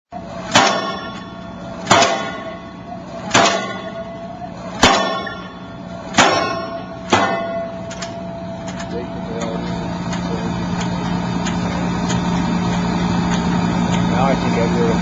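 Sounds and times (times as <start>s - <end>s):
low machine hum: 0.1s - 15.0s
pile driver hammer clanging on steel: 0.4s - 14.2s.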